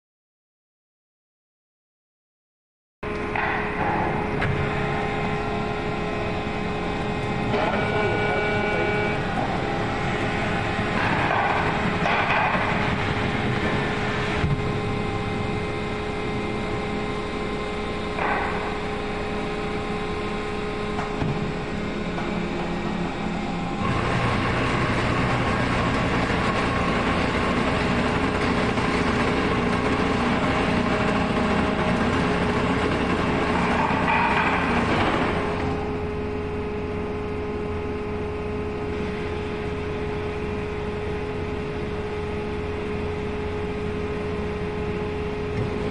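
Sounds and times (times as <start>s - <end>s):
hydraulic unit humming and whining: 3.0s - 45.9s.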